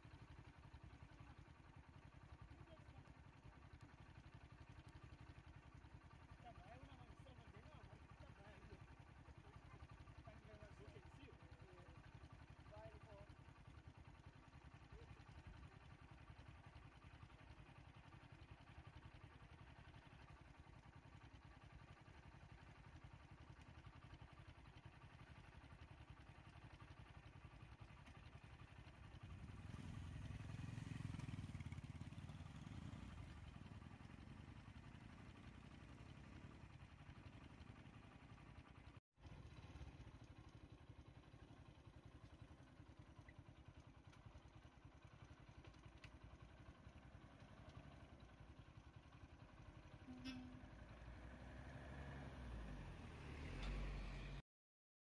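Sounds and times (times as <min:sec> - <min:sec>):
faint low engine rumble: 0:00.0 - 0:54.4.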